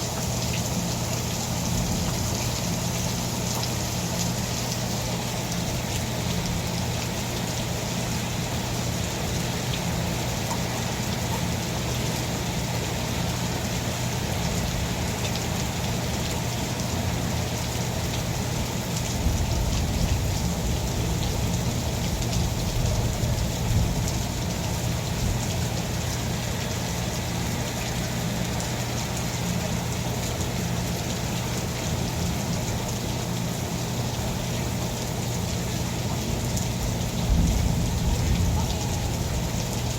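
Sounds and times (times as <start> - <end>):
constant low hum: 0.0 - 39.9
steady rain falling: 0.0 - 39.9.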